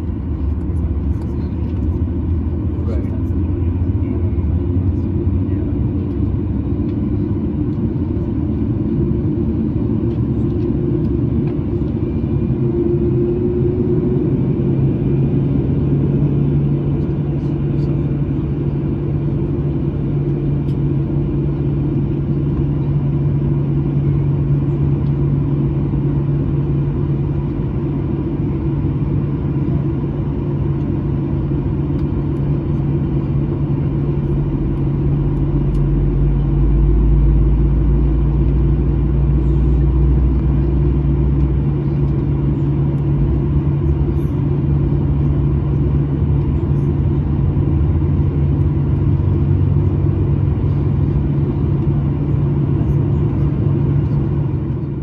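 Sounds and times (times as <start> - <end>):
aircraft cabin rumble and hum: 0.0 - 55.0.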